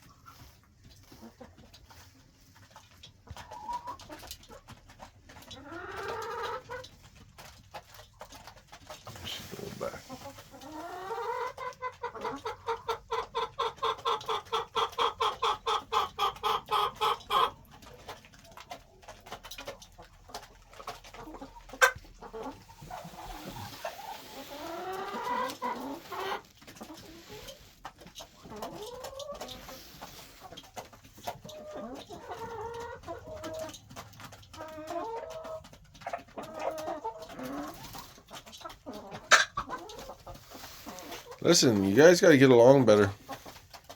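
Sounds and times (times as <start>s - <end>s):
chickens clucking: 0.0s - 43.9s
chickens squawking: 0.0s - 43.9s.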